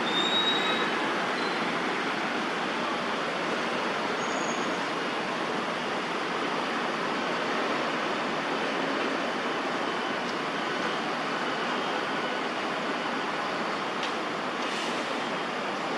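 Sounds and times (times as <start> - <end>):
distant city traffic hiss: 0.0 - 15.9.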